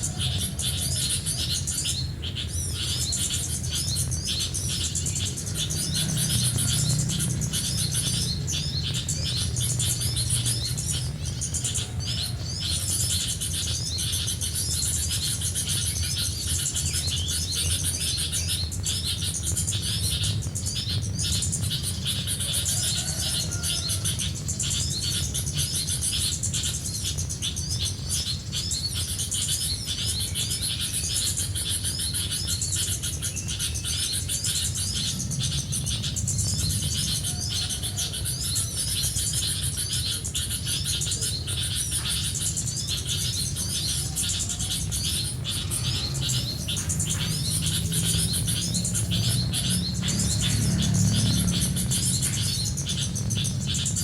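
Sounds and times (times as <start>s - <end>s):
steady low rumble: 0.0s - 27.8s, 32.3s - 54.0s
small birds chirping: 0.0s - 54.0s.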